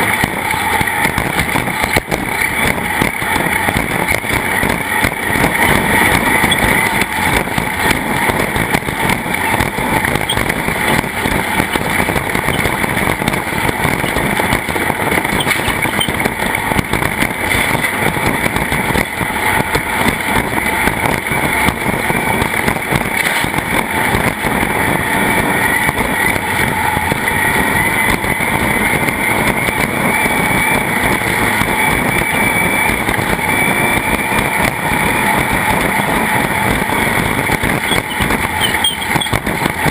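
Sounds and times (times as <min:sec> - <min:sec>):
racing engine running loud: 0:00.0 - 0:39.9.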